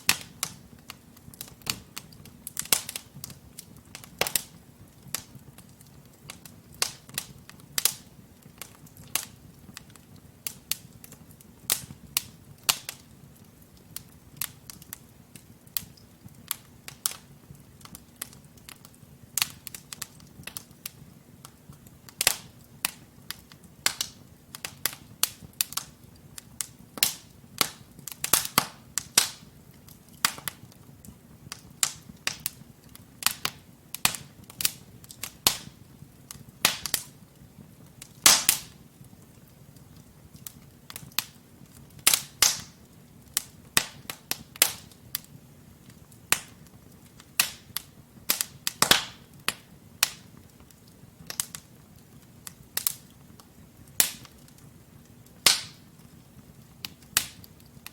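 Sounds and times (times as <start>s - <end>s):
logs crackling and popping: 0.0s - 57.9s
low rumble of flames: 0.0s - 57.9s.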